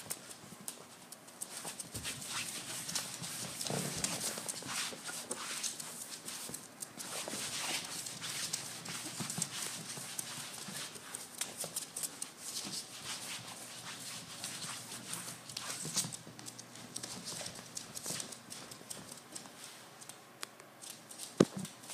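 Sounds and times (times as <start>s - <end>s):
puppy claws clicking on wooden floor: 0.0s - 13.2s, 14.4s - 21.9s.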